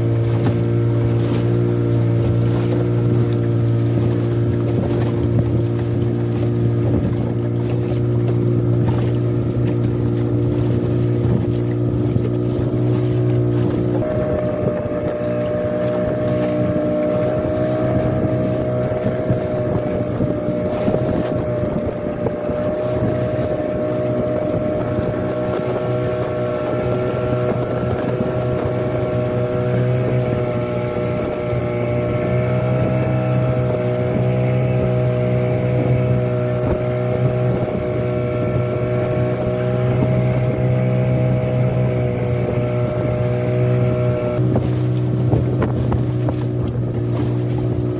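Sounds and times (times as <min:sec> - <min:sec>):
outboard motor running: 0:00.0 - 0:47.9
water noise: 0:00.0 - 0:47.9
wind: 0:00.0 - 0:47.9.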